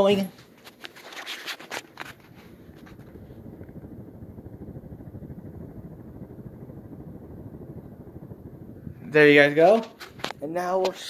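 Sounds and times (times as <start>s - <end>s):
ceiling fan wind rumble: 0.0s - 11.0s.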